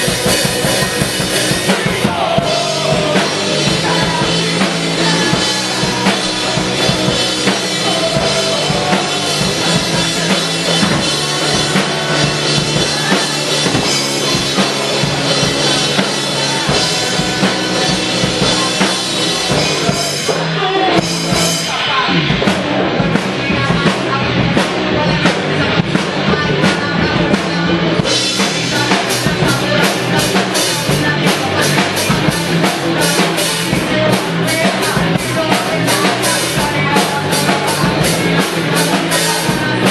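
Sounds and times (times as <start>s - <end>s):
drum kit: 0.0s - 39.9s
rock band playing: 0.0s - 39.9s.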